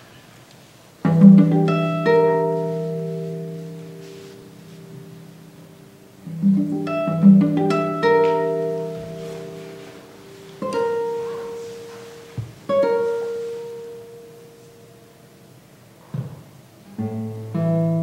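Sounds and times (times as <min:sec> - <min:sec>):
classical guitar plucked notes: 0:01.0 - 0:18.0.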